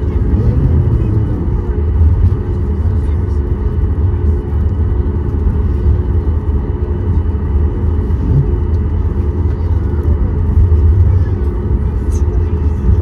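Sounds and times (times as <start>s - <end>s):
airplane cabin low rumble: 0.0s - 13.0s.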